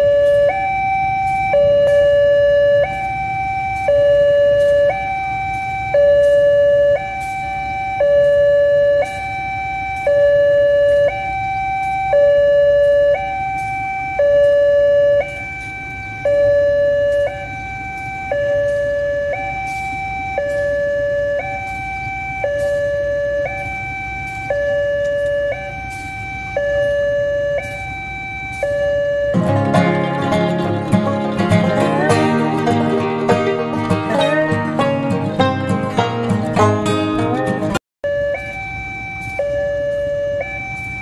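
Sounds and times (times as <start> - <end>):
two-tone warning siren: 0.0 - 41.0.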